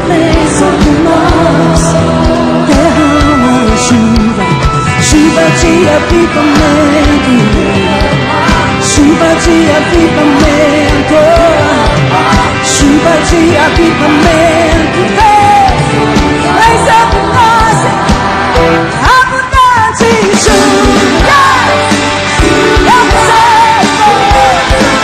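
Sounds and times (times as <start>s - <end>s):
band with drums and keyboards: 0.0s - 25.0s
woman singing lead: 0.0s - 25.0s.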